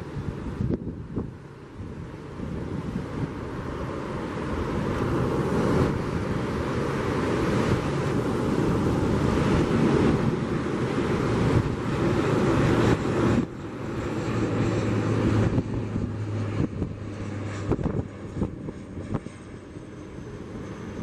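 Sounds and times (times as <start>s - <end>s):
turboprop aircraft propeller drone: 0.0s - 21.0s.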